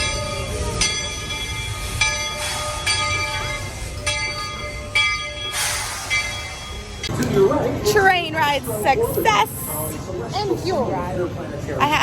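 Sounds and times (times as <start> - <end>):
sustained steady tones: 0.0 - 9.8
steam train rumble: 0.0 - 10.2.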